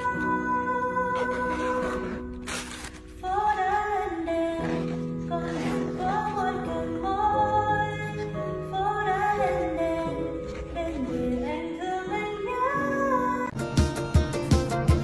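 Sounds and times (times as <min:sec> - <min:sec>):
music with sung melody: 0:03.0 - 0:15.0.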